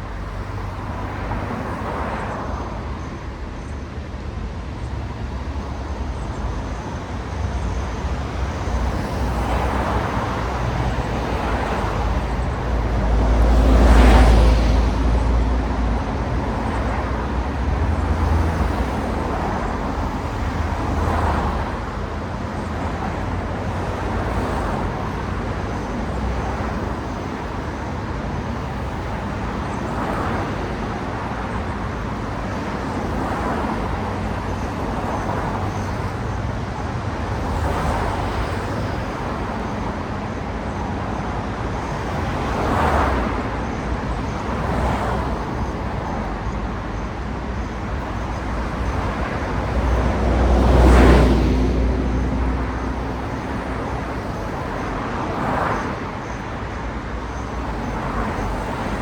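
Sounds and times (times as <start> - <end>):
cars passing: 0.0 - 59.0
hum of tyres and engines: 0.0 - 59.0.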